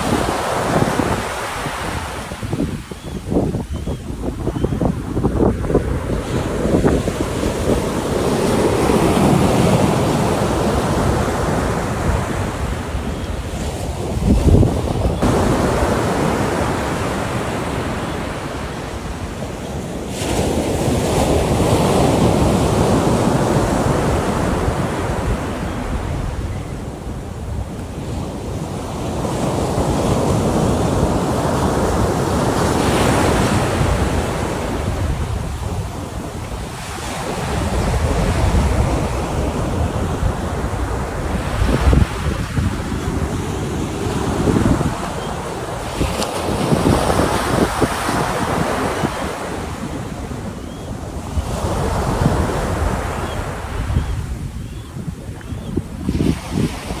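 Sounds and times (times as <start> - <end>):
surf breaking on a beach: 0.0 - 57.0
wind buffeting microphone: 0.0 - 57.0.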